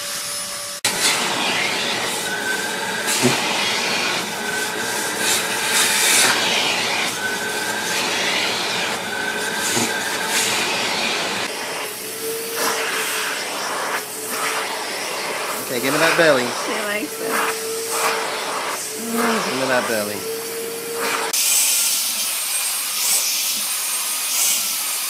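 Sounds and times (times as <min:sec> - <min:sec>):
vacuum cleaner on cat fur: 0:00.0 - 0:25.0
vacuum cleaner thin hum: 0:00.0 - 0:25.0.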